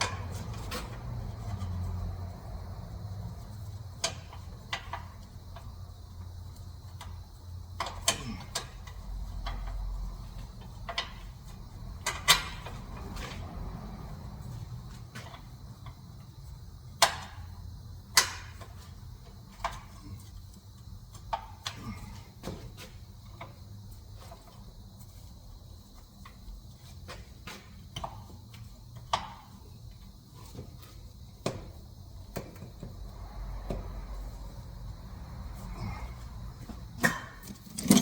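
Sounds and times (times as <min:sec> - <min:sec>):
hand tools and metal parts knocking: 0:00.0 - 0:02.4, 0:03.1 - 0:16.3, 0:16.9 - 0:24.6, 0:26.2 - 0:34.1, 0:35.4 - 0:38.0.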